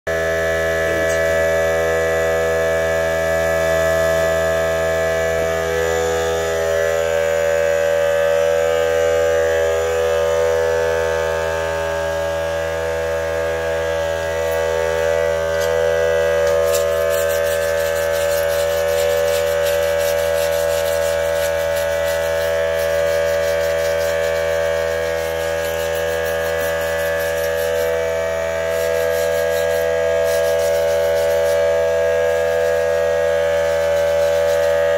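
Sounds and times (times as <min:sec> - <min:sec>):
steady machine hum: 0:00.1 - 0:34.9.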